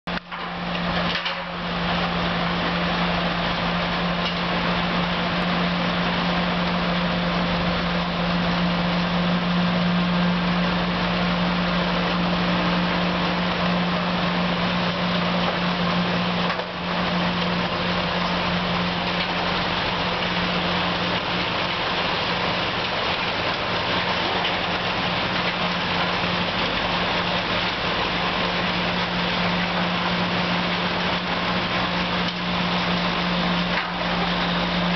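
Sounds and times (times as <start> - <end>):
snowblower and truck engines droning: 0.1 - 34.9.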